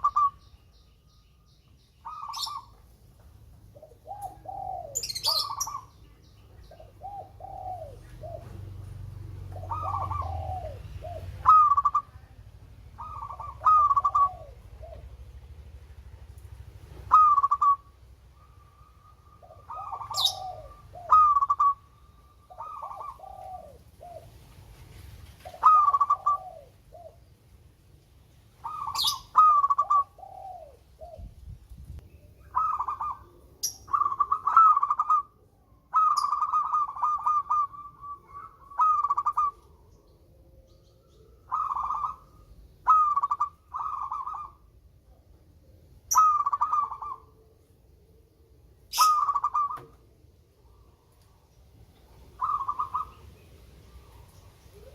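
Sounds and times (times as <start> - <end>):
dove cooing: 0.0 - 0.6, 2.0 - 27.4, 28.5 - 54.9.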